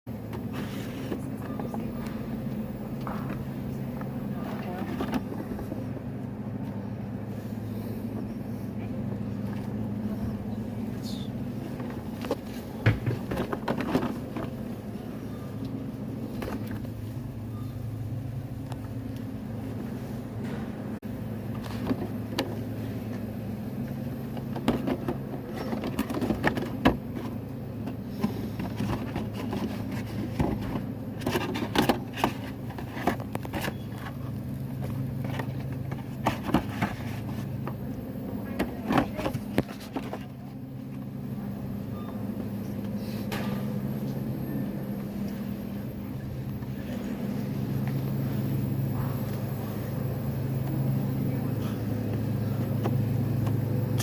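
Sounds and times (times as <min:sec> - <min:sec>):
low background hum: 0:00.1 - 0:54.0.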